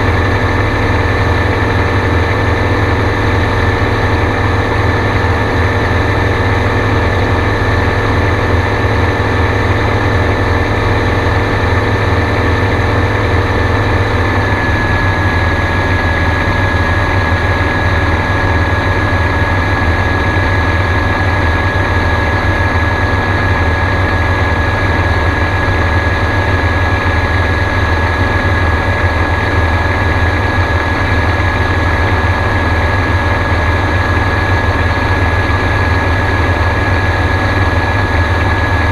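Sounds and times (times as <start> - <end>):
aircraft engine and propeller: 0.0 - 38.9.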